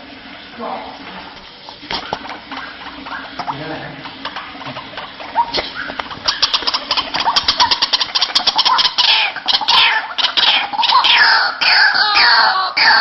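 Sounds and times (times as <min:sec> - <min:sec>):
waterhen calling: 0:01.2 - 0:13.0.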